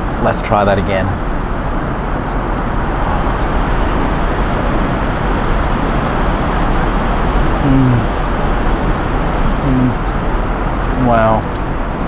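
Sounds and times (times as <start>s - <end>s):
airplane cabin noise: 0.0s - 12.0s.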